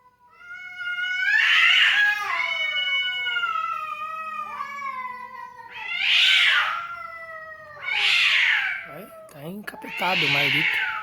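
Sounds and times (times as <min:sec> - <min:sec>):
cats caterwauling: 0:00.0 - 0:11.0.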